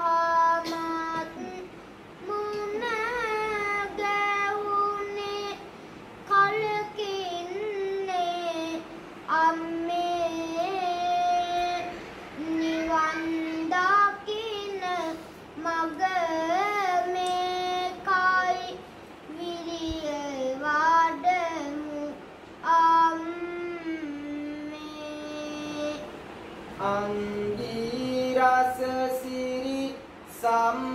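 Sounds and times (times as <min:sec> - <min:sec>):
person singing unaccompanied verse: 0:00.0 - 0:30.9.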